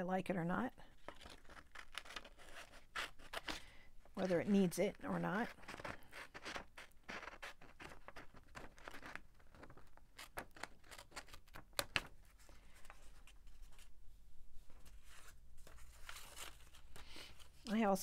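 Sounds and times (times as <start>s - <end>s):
paper rustling: 0.9s - 14.0s, 14.6s - 17.9s.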